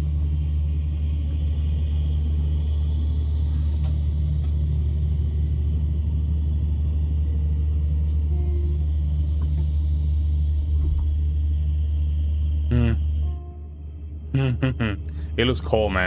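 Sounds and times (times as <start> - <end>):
pulsing hum: 0.0 - 16.0.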